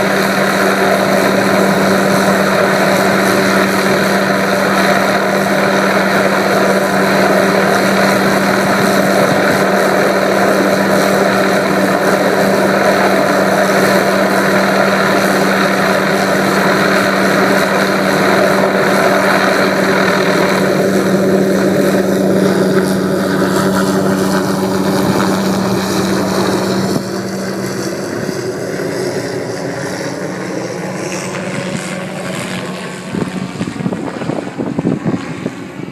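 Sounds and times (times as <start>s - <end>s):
helicopter rotor and engine drone: 0.0s - 35.9s
wind buffeting microphone: 0.0s - 35.9s.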